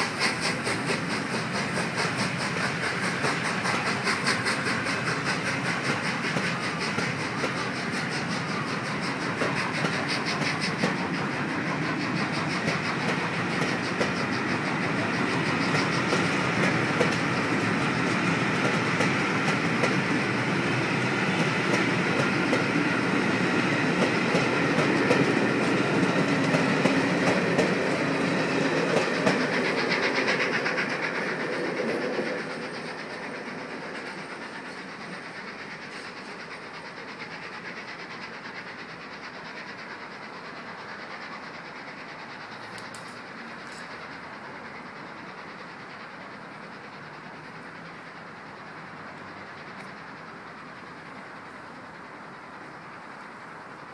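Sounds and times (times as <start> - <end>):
train wheels clattering over rail joints: 0.0 - 53.9.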